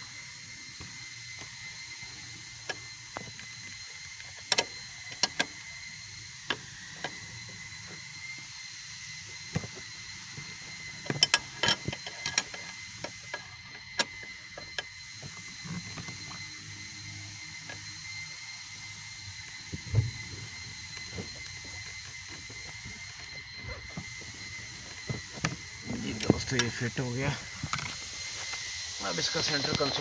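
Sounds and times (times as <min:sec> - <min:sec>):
steady hum with high whine: 0:00.0 - 0:30.0.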